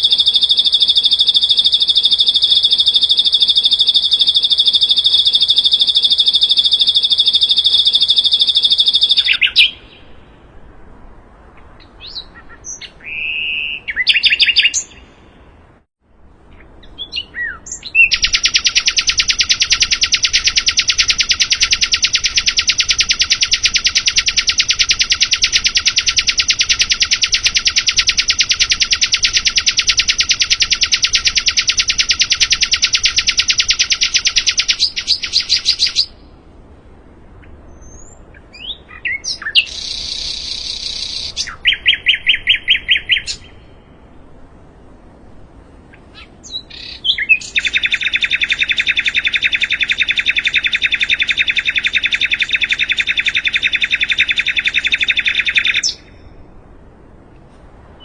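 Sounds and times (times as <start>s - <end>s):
songbird trilling: 0.0s - 10.5s, 11.5s - 15.4s, 16.5s - 36.3s, 37.4s - 44.0s, 45.9s - 56.4s.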